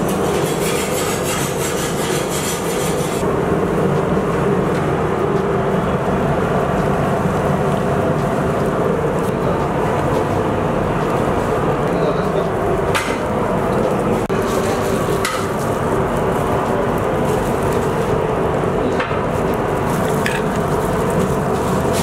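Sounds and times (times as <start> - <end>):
extraction fan running: 0.0 - 22.0
gas burners roaring: 0.0 - 22.0.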